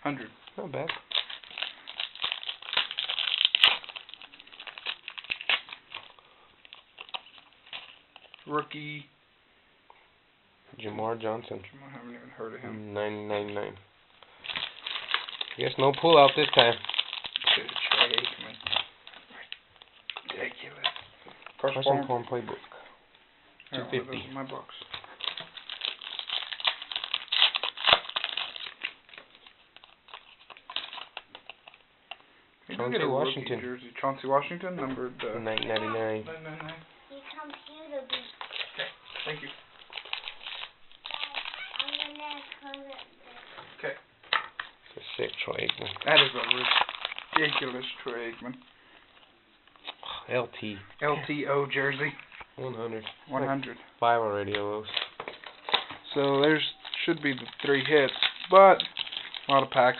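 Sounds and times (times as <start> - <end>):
card packaging crinkling: 0.4 - 8.5, 13.1 - 22.6, 23.9 - 32.2, 35.0 - 43.6, 44.6 - 59.9.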